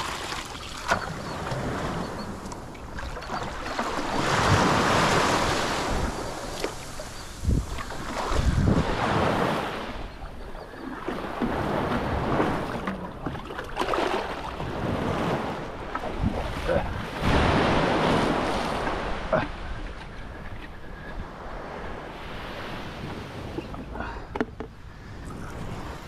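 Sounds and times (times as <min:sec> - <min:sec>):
small surf waves washing in: 0:00.0 - 0:24.0
wind rumbling on microphone: 0:01.0 - 0:26.0.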